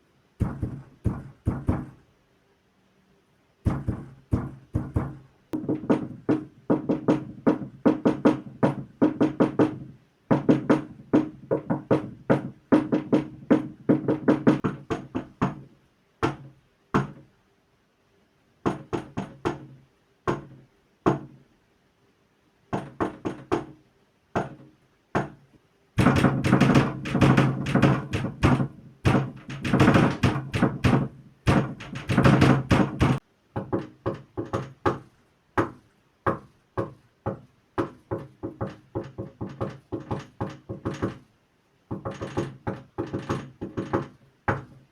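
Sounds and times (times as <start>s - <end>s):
fast knocking on hollow surface: 0.4s - 2.0s, 3.7s - 17.2s, 18.6s - 21.3s, 22.7s - 23.7s, 24.4s - 24.6s, 26.0s - 41.2s, 41.9s - 44.8s.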